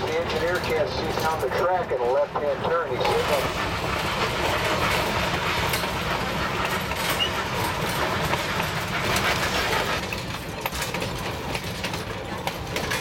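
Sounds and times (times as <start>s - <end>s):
rail clicks: 0.0s - 13.0s
train wheels rumbling on rails: 0.0s - 13.0s.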